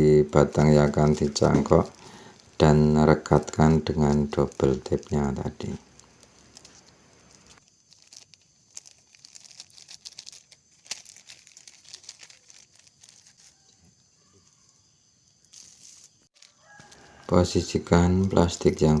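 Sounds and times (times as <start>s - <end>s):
plastic sheet crinkling: 0.4s - 14.0s, 15.4s - 17.3s.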